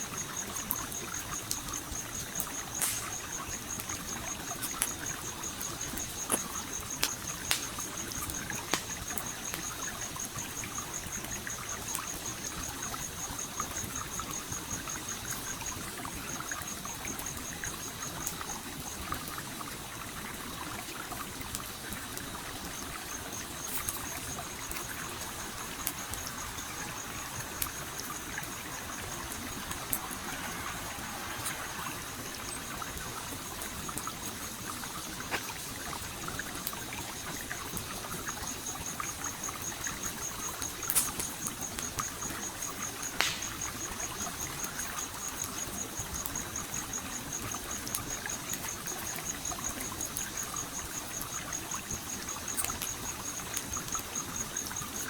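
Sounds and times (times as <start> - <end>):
campfire crackling: 0.0 - 55.0
stream trickling: 0.0 - 55.0.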